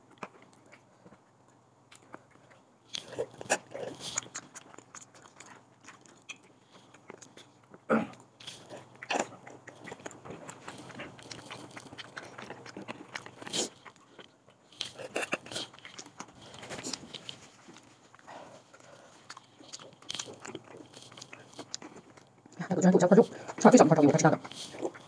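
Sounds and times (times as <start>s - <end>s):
chewing: 0.0s - 25.0s.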